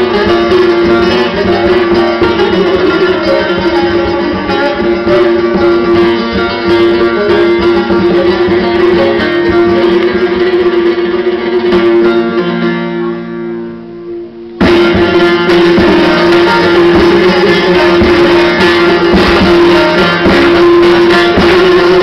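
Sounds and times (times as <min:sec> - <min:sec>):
plucked string instrument: 0:00.0 - 0:22.0.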